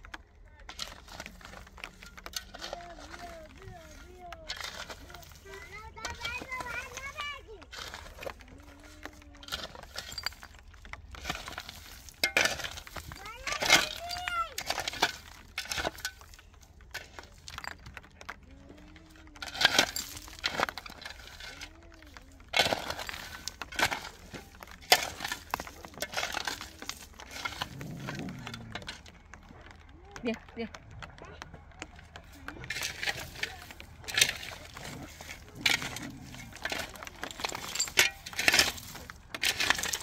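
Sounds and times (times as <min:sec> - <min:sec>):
hard objects knocking and cracking: 0:00.0 - 0:40.0.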